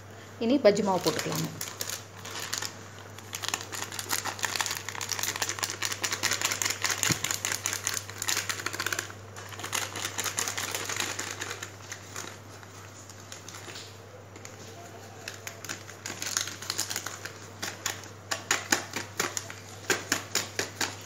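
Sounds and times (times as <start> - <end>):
plastic packet crinkling: 0.8 - 21.0.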